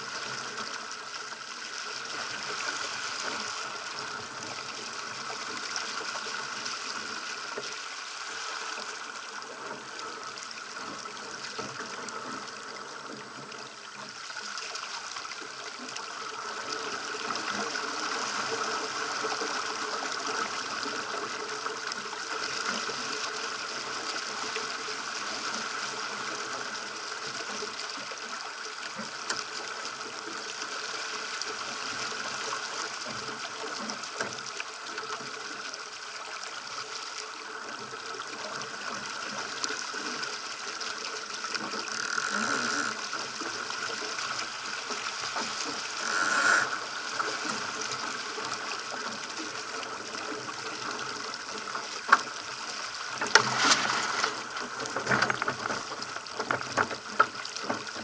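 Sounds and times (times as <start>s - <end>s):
water splashing along boat hull: 0.0s - 58.0s.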